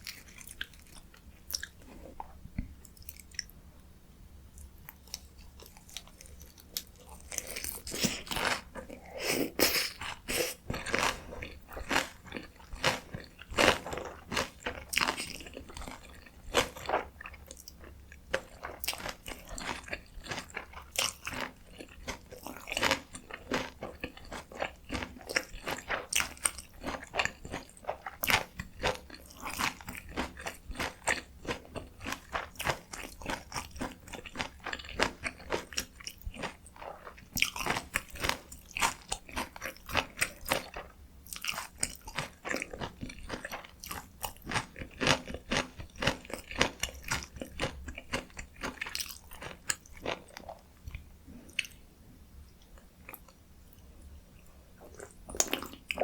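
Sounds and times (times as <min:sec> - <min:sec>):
close chewing with wet crunches: 0:00.0 - 0:02.2, 0:10.0 - 0:51.8, 0:54.8 - 0:56.0.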